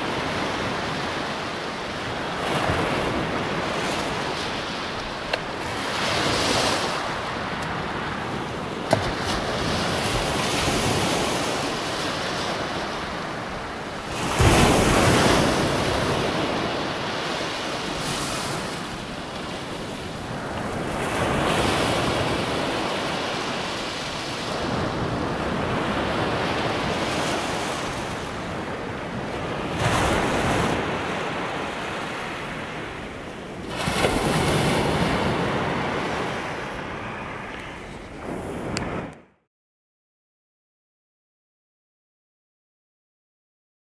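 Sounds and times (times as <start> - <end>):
waves washing on shingle beach: 0.0 - 39.1.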